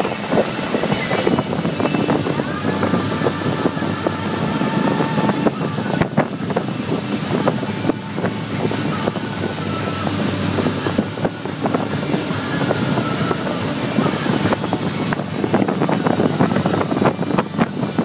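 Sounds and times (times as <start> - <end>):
churning wake rushing: 0.0 - 18.0
motorboat engine hum: 0.0 - 18.0
wind buffeting microphone: 0.0 - 18.0.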